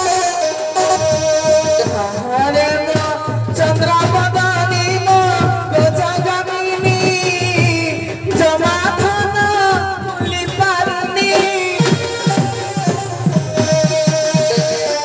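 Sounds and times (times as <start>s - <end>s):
fast drumming on barrel drums: 0.8s - 15.0s.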